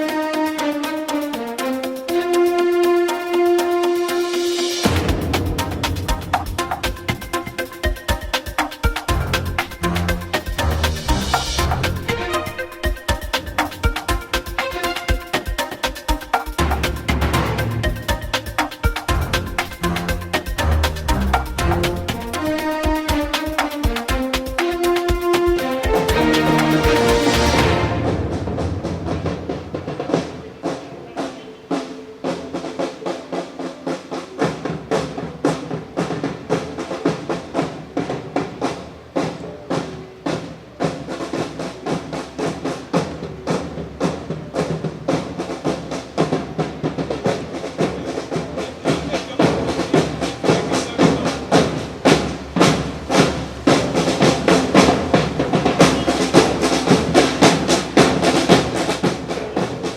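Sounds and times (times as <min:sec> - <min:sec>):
percussion-led music: 0:00.0 - 0:59.9.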